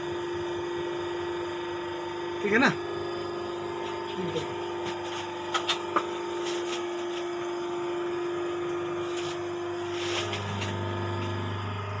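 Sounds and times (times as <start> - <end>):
motor and pump humming: 0.0 - 12.0.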